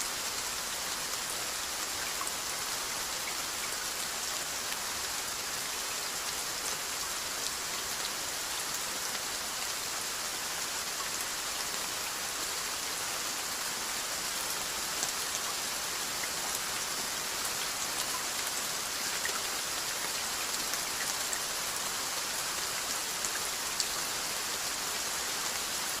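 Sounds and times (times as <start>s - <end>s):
steady rainfall hiss: 0.0s - 26.0s.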